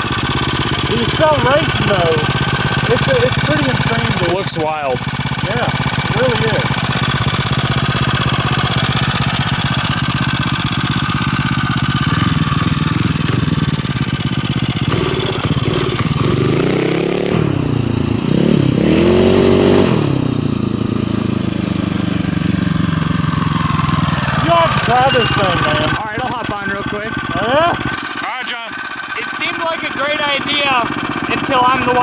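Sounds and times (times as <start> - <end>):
dirt bike engine idling and revving: 0.0 - 32.0.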